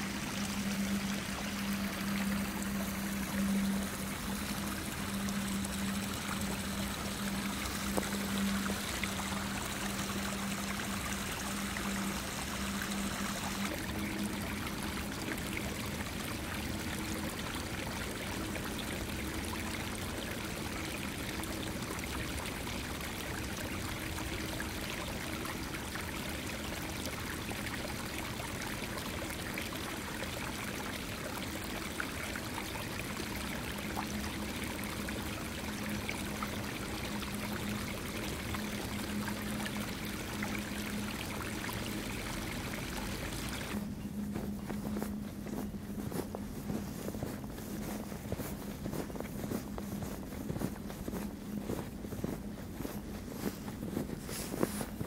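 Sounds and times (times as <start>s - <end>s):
creek running over stones: 0.0s - 55.0s
steady low hum: 0.0s - 55.0s.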